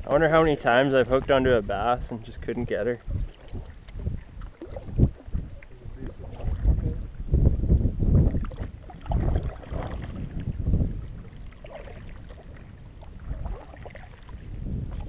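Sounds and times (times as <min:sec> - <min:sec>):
wind buffeting microphone: 0:00.0 - 0:15.0
paddle strokes through water: 0:02.7 - 0:15.0.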